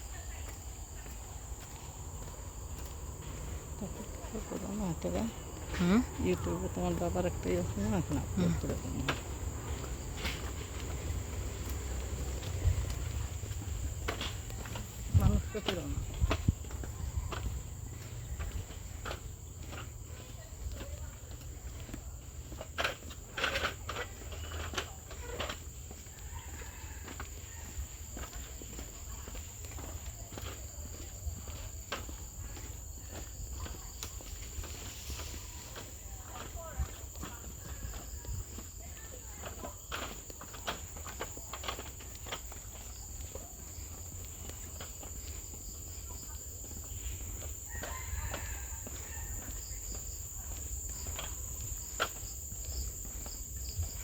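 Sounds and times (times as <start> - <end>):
footsteps on forest trail: 0.0 - 54.0
insects droning: 0.0 - 54.0.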